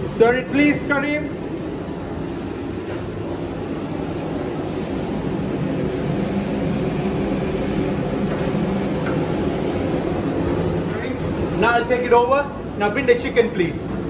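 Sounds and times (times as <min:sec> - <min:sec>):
extraction fan roar: 0:00.0 - 0:14.0
gas burner roar: 0:00.0 - 0:14.0.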